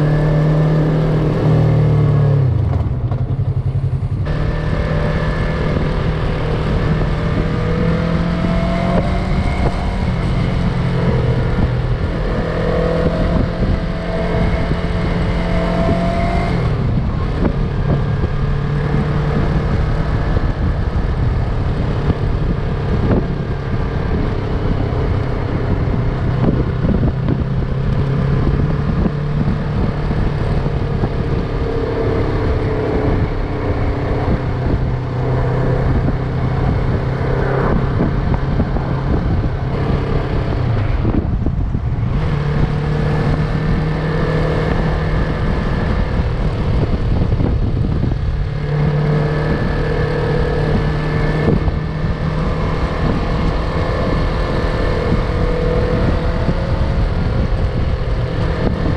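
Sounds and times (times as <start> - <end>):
motorcycle engine running: 0.0 - 58.9
wind noise: 0.0 - 58.9.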